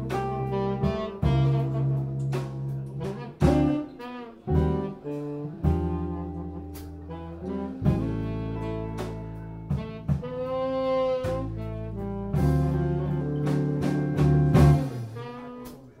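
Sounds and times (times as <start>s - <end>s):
drums: 0.0s - 16.0s
electric guitar: 0.0s - 16.0s
saxophone: 0.0s - 16.0s
upright double bass: 0.0s - 16.0s.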